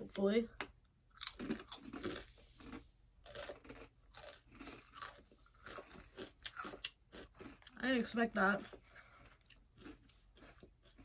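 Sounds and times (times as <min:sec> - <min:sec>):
chips crunching while chewing: 0:01.1 - 0:11.0.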